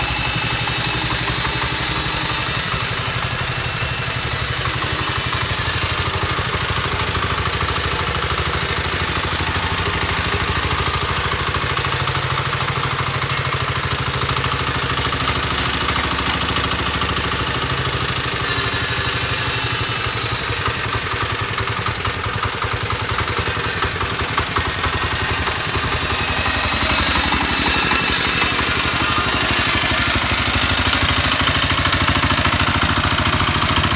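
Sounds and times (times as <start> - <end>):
diesel engine clattering: 0.0 - 33.9.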